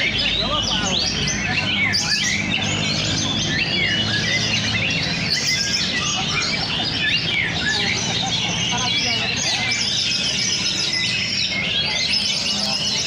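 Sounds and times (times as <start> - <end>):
birds singing whistles and chirps: 0.0 - 13.0.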